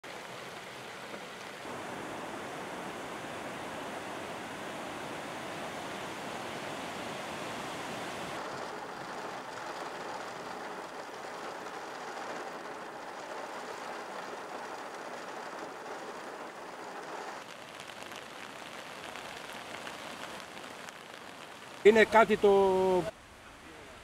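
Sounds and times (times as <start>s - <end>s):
floodwater rushing down street: 0.0s - 24.0s.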